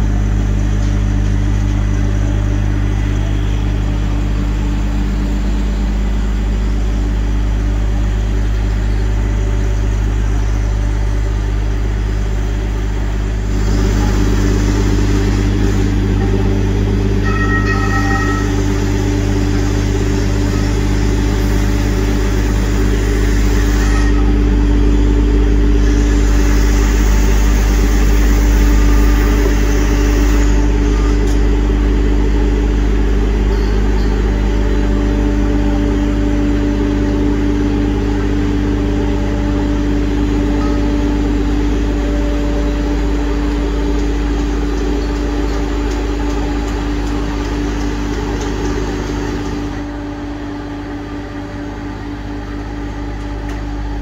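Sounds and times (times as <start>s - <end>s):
locomotive engine humming: 0.0s - 54.0s.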